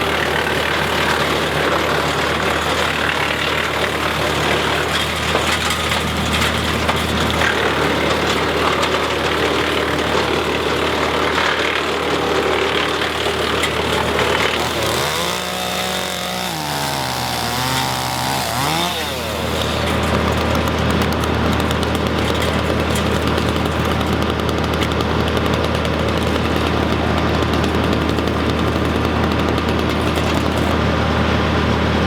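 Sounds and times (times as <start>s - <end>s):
tractor engine hum: 0.0s - 32.0s
wood chipper running: 0.0s - 32.0s.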